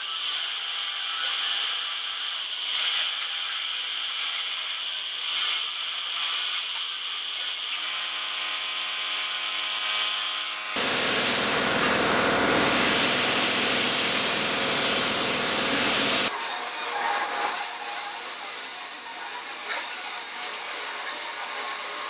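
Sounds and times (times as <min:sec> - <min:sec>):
harsh metal cutting noise: 0:00.0 - 0:05.8, 0:07.8 - 0:22.0.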